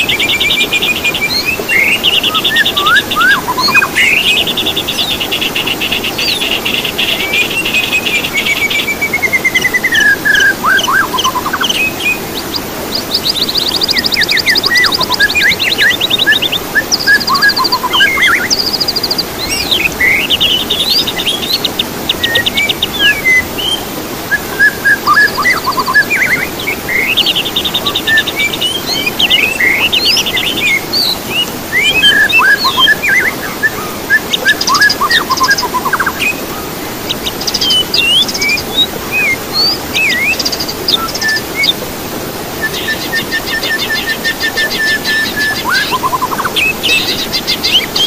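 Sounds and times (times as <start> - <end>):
songbird singing: 0.0 - 41.8, 42.6 - 48.0.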